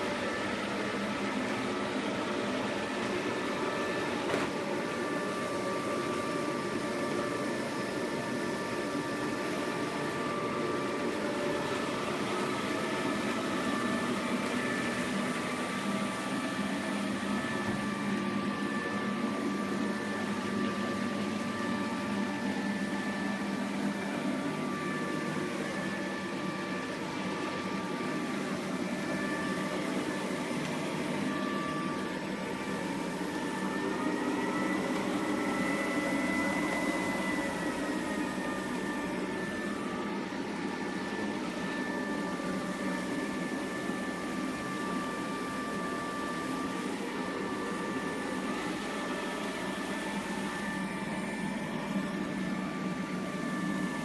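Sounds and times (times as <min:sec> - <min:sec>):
robot vacuum running: 0:00.0 - 0:54.0.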